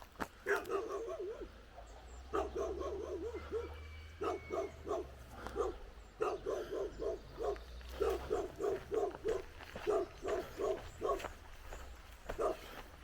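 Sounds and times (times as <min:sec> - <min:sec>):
dog barking: 0:00.4 - 0:11.4, 0:12.2 - 0:12.8.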